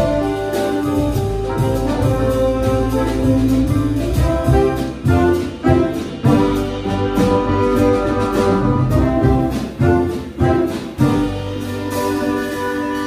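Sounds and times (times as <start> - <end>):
jazz ensemble playing: 0.0 - 13.0
saxophone and trombone melody: 0.0 - 13.0.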